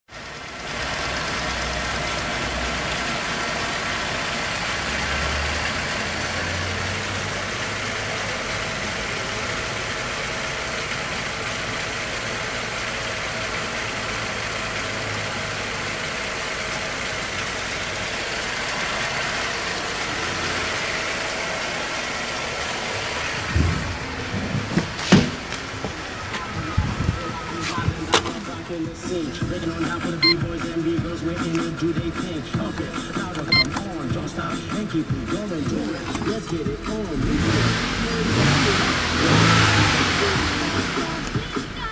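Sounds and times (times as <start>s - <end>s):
car engine idling: 0.1s - 41.9s.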